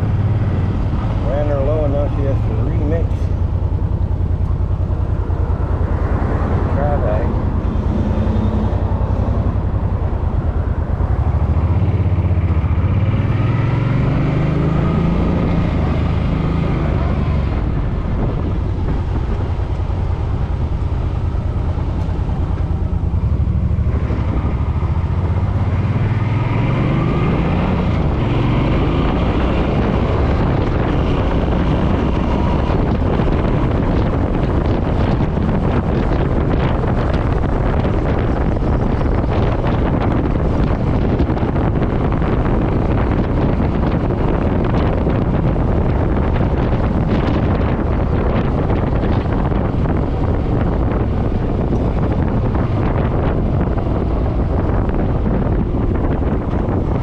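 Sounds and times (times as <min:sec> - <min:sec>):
motorcycle engine accelerating: 0:00.0 - 0:57.0
wind on microphone: 0:00.0 - 0:57.0.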